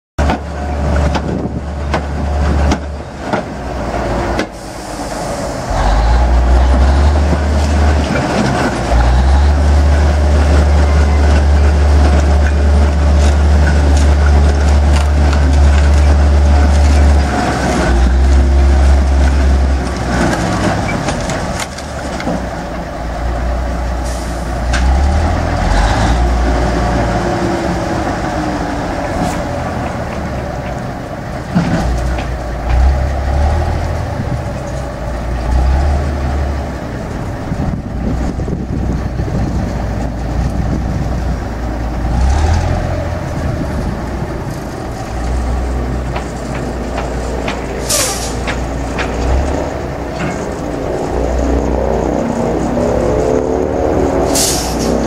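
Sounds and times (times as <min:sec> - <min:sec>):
crane engine rumbling: 0:00.2 - 0:55.0.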